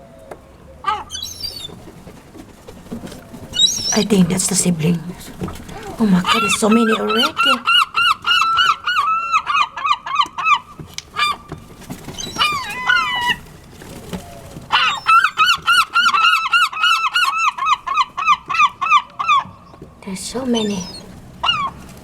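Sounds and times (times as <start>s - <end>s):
seagulls calling: 0.0s - 22.0s.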